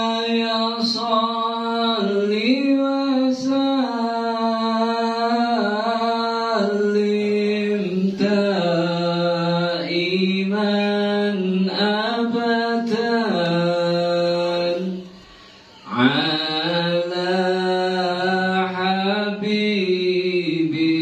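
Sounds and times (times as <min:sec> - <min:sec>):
man chanting into a microphone: 0:00.0 - 0:15.2, 0:15.8 - 0:21.0.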